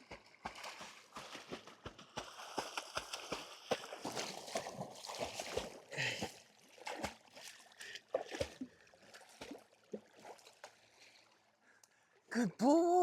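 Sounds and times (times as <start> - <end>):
dog paddling in water: 0.0 - 11.4.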